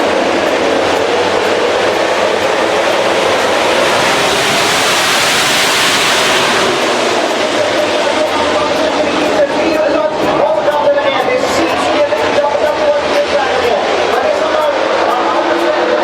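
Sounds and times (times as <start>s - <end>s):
racing motorcycle engines droning: 0.0s - 16.0s.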